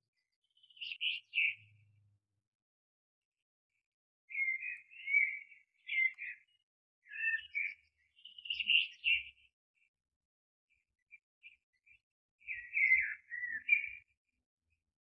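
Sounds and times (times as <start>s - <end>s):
small songbirds chirping: 0.0s - 2.6s, 3.3s - 15.0s.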